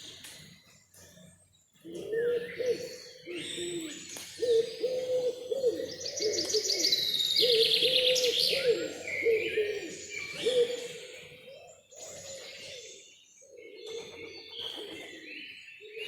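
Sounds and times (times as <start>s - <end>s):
low repeated bird calls: 0.0s - 16.0s
songbirds trilling and chirping: 0.0s - 16.0s.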